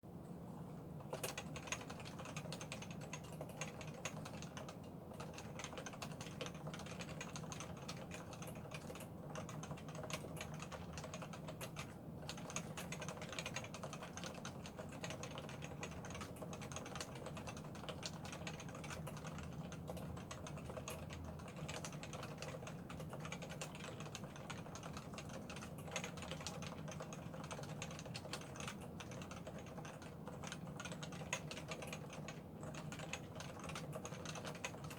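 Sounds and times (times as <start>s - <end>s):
keyboard typing: 1.0s - 34.9s.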